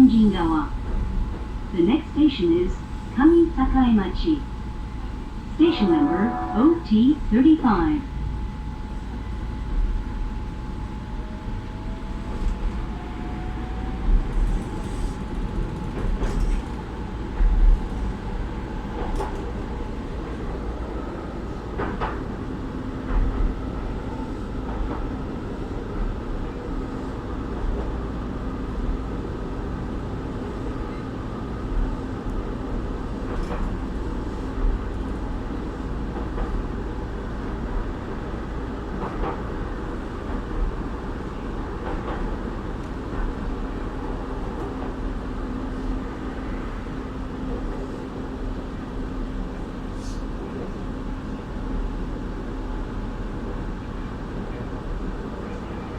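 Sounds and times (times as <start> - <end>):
train running on rails: 0.0 - 55.9.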